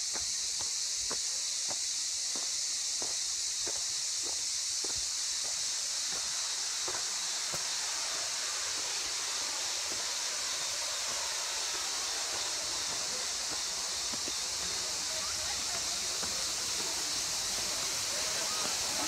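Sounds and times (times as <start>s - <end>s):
steady high-pitched hiss: 0.0s - 19.0s.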